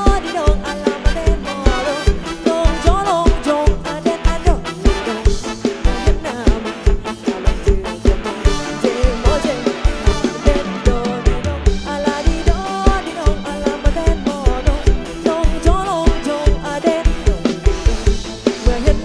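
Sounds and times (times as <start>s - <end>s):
fast kick drum beat: 0.0s - 19.0s
live band dance music: 0.0s - 19.0s.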